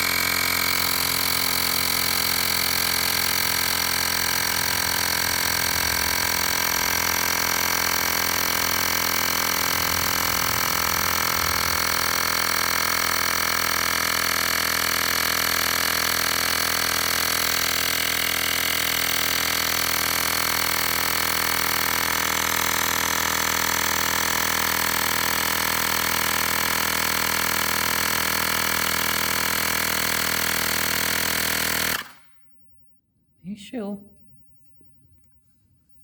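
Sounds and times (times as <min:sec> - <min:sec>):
electric air compressor running: 0:00.0 - 0:32.4.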